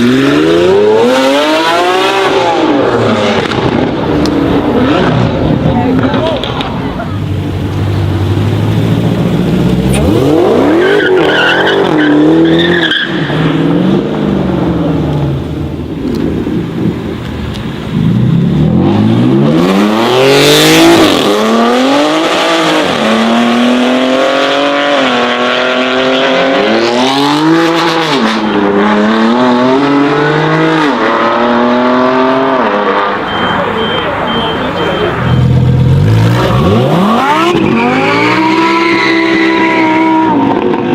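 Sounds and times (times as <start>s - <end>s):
car engines accelerating hard: 0.0s - 40.9s.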